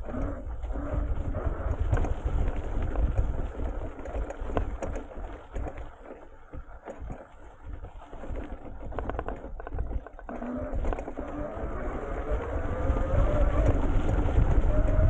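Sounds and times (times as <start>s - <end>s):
bike clicking and rattling: 0.0s - 15.0s
tyres crackling over stubble: 0.0s - 15.0s
wind rumbling on microphone: 0.0s - 15.0s.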